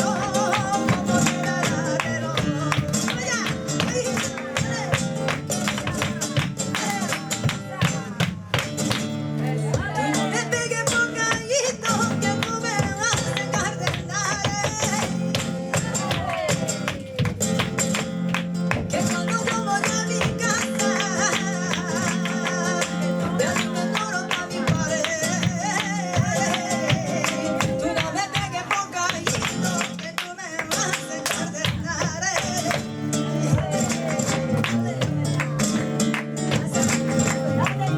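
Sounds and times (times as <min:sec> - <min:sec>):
woman singing: 0:00.0 - 0:08.7, 0:09.3 - 0:18.0, 0:18.7 - 0:37.9
plucked flamenco guitar: 0:00.0 - 0:37.9.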